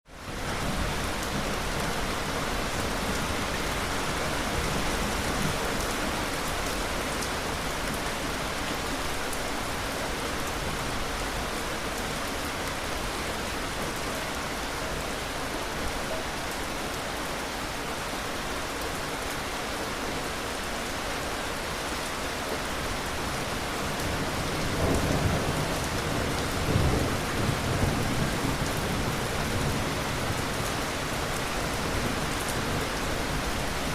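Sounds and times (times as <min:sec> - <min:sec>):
steady rain: 0:00.1 - 0:33.9.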